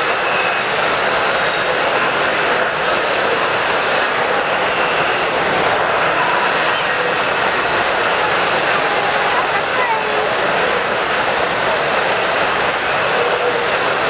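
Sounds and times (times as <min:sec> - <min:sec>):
crowd murmur: 0:00.0 - 0:14.0.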